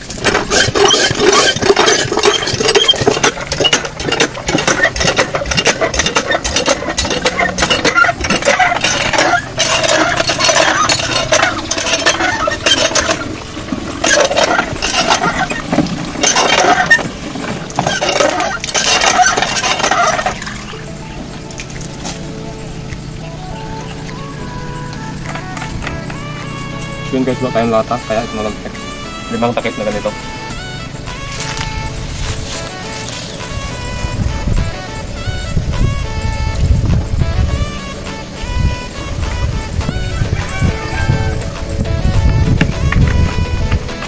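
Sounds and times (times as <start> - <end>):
hand pump clanking: 0.0 - 44.0.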